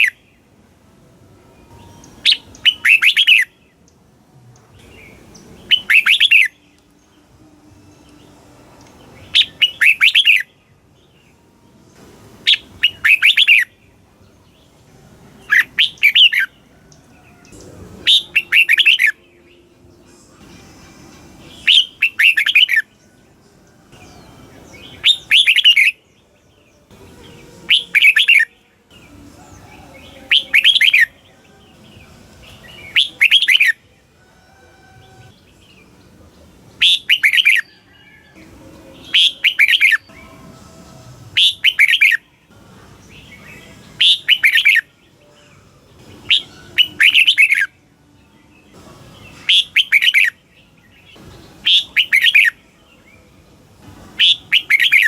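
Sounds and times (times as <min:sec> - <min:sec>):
bird singing warbled phrases: 0:00.0 - 0:00.7, 0:01.5 - 0:34.1, 0:35.0 - 0:55.0.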